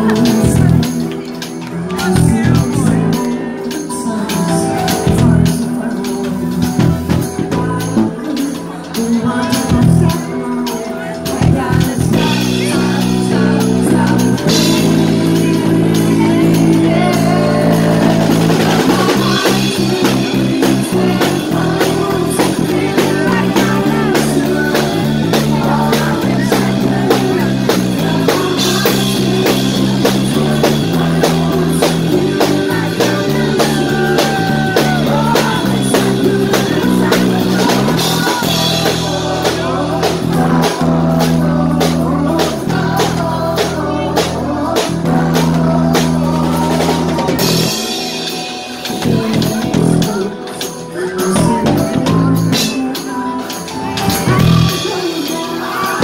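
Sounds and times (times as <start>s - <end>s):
bass line: 0.0s - 1.2s, 1.8s - 3.6s, 4.4s - 8.3s, 9.0s - 10.3s, 11.3s - 48.1s, 48.9s - 50.3s, 51.2s - 52.8s, 53.8s - 55.0s
drum kit beat: 0.0s - 56.0s
woman singing: 0.0s - 56.0s.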